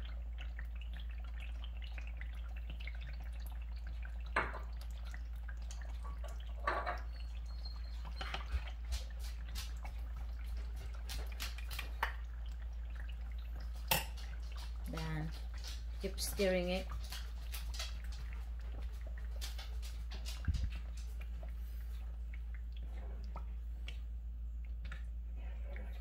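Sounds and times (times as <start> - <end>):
oil crackling in frying pan: 0.0 - 21.2.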